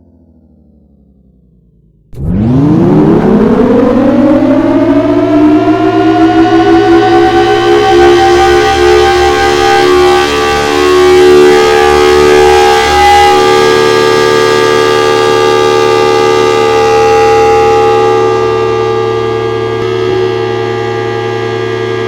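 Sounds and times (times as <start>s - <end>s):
civil defense siren wailing: 2.1s - 22.0s.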